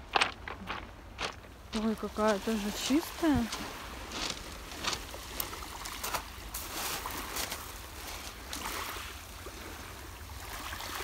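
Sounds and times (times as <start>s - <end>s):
small waves lapping on pebbles: 0.0s - 11.0s.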